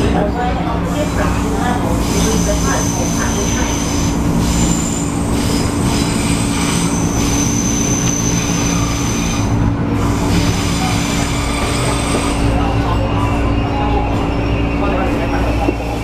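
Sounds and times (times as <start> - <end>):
train running hum: 0.0 - 16.0
high-pitched wheel squeal: 2.1 - 16.0.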